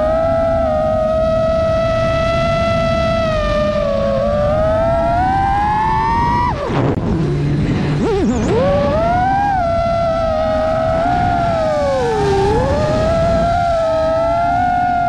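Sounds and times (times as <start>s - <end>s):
drone motors whining: 0.0s - 15.0s
low wind noise: 0.0s - 15.0s.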